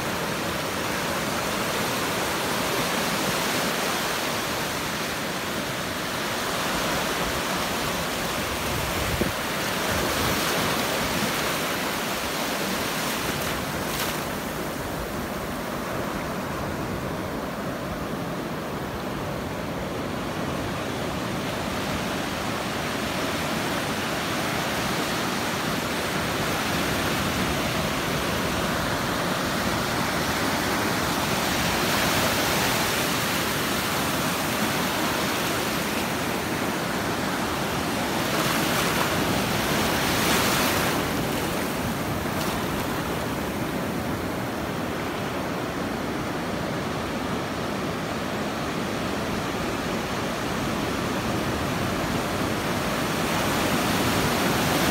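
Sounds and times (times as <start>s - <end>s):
ocean surf washing over sand: 0.0s - 54.9s.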